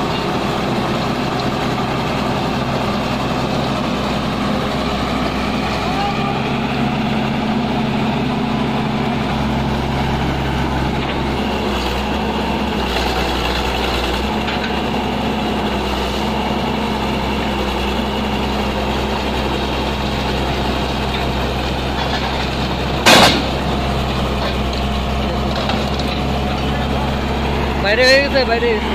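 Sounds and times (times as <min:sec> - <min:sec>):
excavator engine idling: 0:00.0 - 0:28.9.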